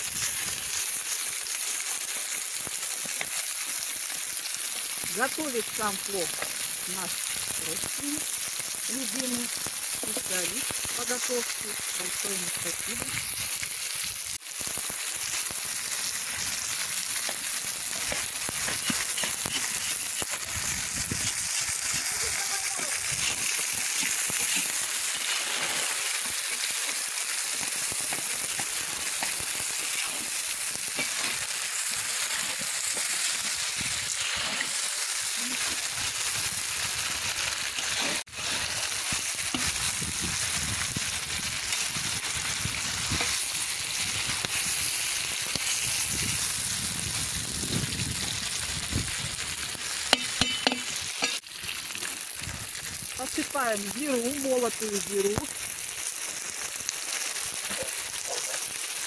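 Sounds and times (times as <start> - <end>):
meat sizzling in hot oil: 0.0 - 59.0.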